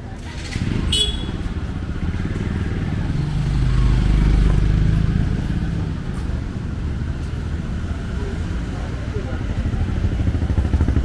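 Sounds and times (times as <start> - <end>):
murmur of street voices: 0.0 - 11.0
vehicle engine passing by: 0.0 - 11.0.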